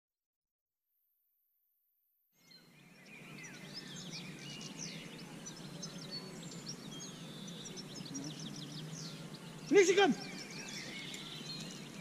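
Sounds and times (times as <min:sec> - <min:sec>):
small birds chirping: 0:02.4 - 0:12.0.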